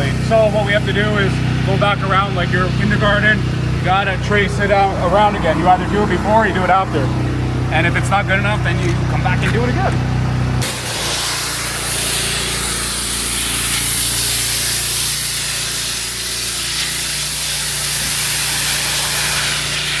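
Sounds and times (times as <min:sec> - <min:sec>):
high-pressure water spray hissing: 0:00.0 - 0:08.0, 0:09.2 - 0:20.0
pressure washer engine running: 0:00.0 - 0:20.0.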